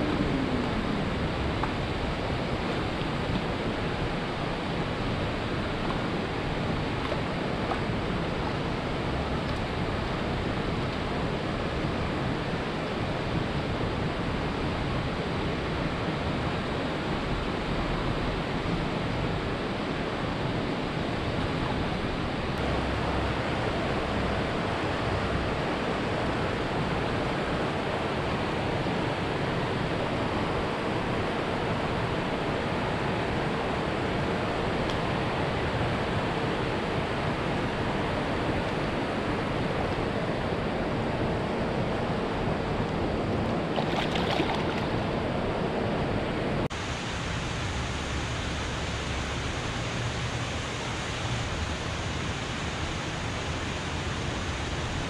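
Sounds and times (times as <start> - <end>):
steady rushing outdoor noise: 0.0 - 55.0.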